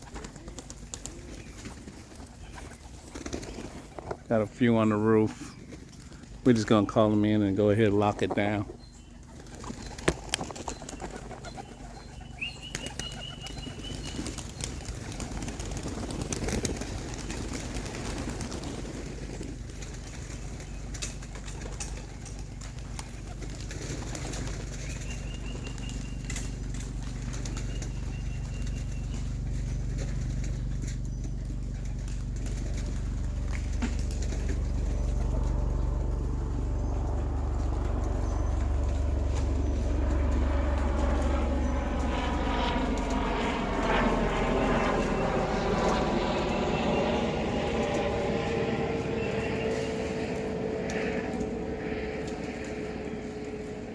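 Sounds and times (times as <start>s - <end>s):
pigeon wings flapping: 0.0s - 6.7s, 9.2s - 46.6s, 47.4s - 53.9s
low steady hum: 0.0s - 53.9s
pigeons cooing: 0.0s - 53.9s.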